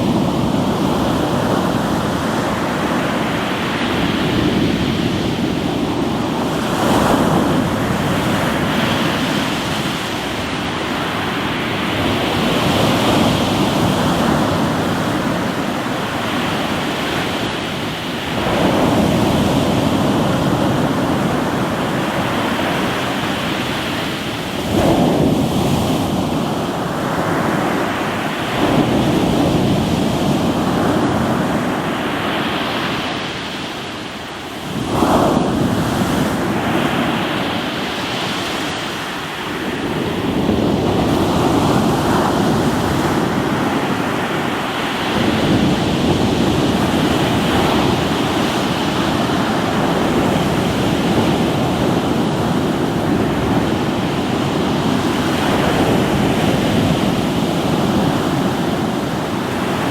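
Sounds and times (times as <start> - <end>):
ocean waves breaking on rocks: 0.0 - 59.9
wind buffeting microphone: 0.0 - 59.9.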